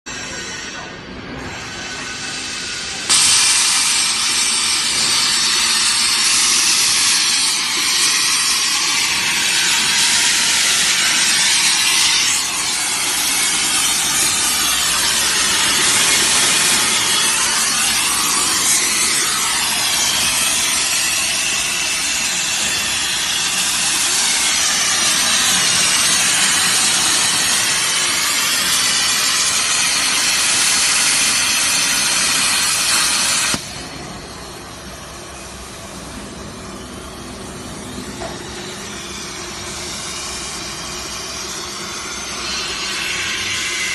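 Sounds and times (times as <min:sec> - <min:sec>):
plasma cutter hissing: 0:00.1 - 0:43.9.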